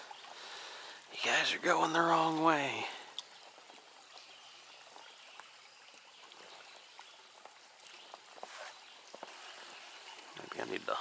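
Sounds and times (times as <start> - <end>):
creek water trickling: 0.0 - 11.0.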